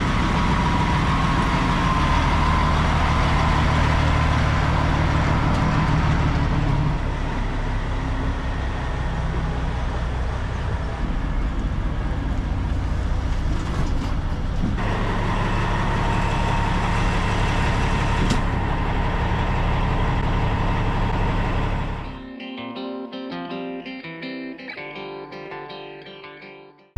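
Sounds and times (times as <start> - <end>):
truck engine running: 0.0 - 22.2.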